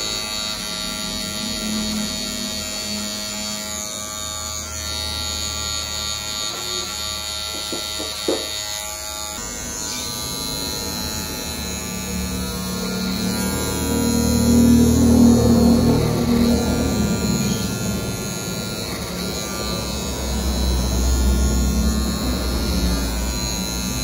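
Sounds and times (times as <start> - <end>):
electric hair clipper running: 0.0 - 24.0.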